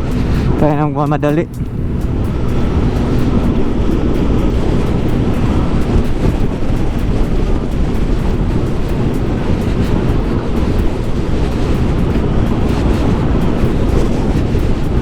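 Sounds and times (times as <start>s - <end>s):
road noise: 0.0s - 15.0s
scooter engine droning: 0.0s - 15.0s
wind rush: 0.0s - 15.0s.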